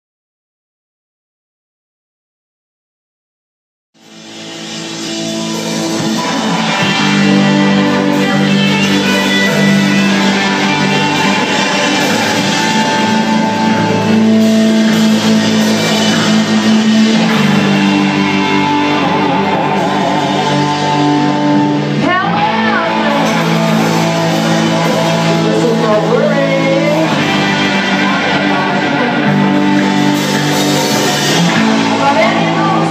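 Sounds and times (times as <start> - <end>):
rock band playing live: 4.0 - 32.9.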